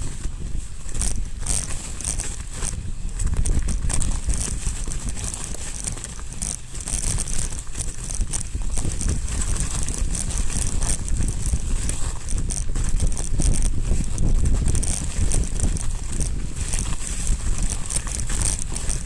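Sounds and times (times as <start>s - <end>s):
camera mount rumble: 0.0s - 19.0s
tyres crackling and frame rattling: 0.0s - 19.0s.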